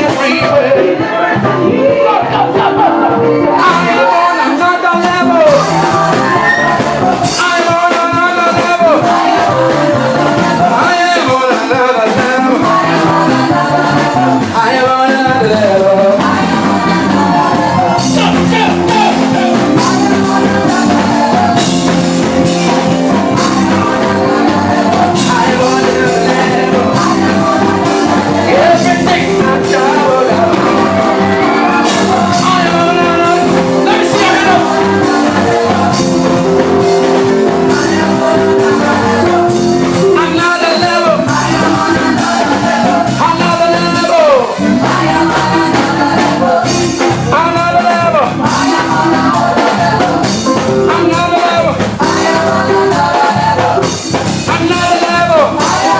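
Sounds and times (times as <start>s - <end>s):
band playing chords: 0.0s - 55.9s
drum beats: 0.0s - 55.9s
voices singing: 0.0s - 55.9s.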